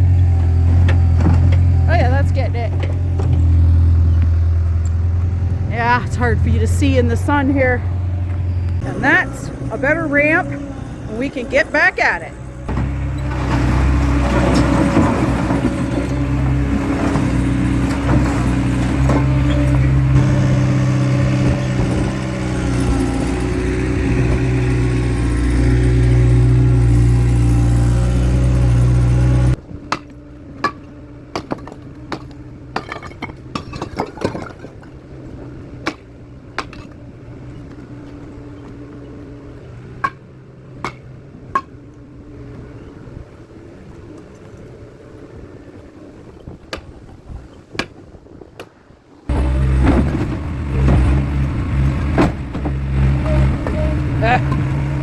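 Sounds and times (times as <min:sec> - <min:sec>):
skid steer engine running: 0:00.0 - 0:46.4, 0:49.3 - 0:55.0.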